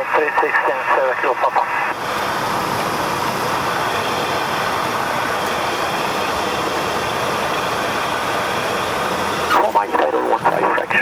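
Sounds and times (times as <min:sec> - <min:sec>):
small plane engine drone in cabin: 0:00.0 - 0:11.0.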